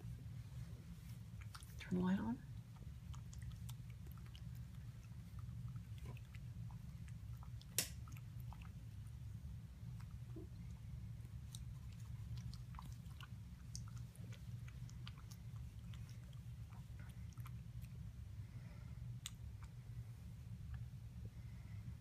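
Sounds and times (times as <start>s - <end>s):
cat lapping water: 1.0s - 19.7s.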